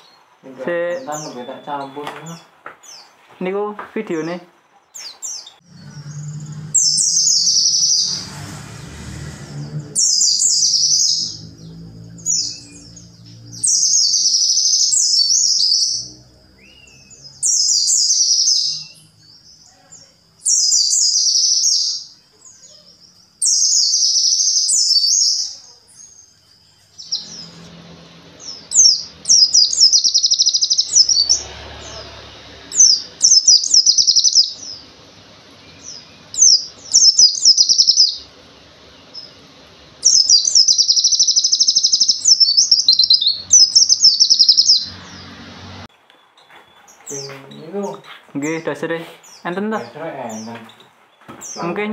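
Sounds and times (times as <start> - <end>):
bird chirps: 0.0 - 3.2, 4.1 - 51.9
bird singing high song: 0.0 - 51.9.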